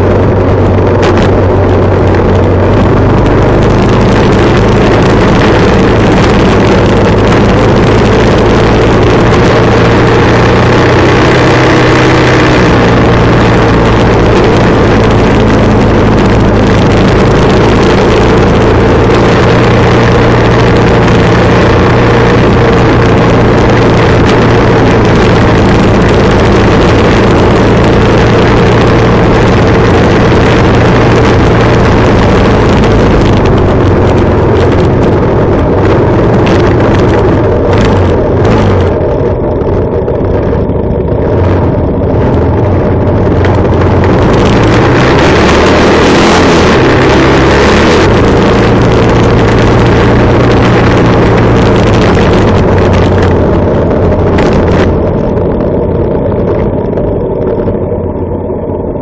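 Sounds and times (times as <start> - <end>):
motorcycle engine cruising: 0.0 - 59.0
wind noise on microphone: 0.0 - 59.0.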